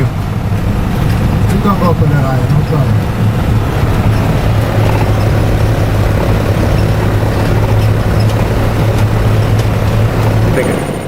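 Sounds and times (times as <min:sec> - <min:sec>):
constant low hum: 0:00.0 - 0:11.0
vehicle engine and road noise: 0:00.0 - 0:11.0.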